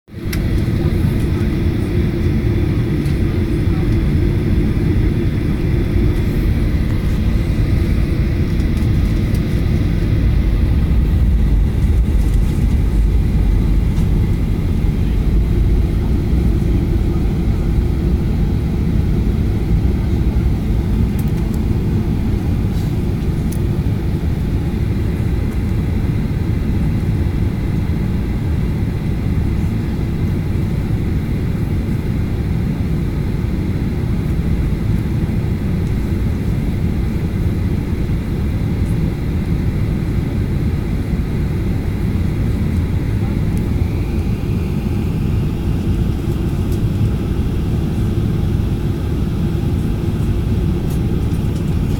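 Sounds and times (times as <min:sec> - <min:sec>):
faint engine whine: 0:00.1 - 0:51.9
jet engine low rumble: 0:00.1 - 0:51.9.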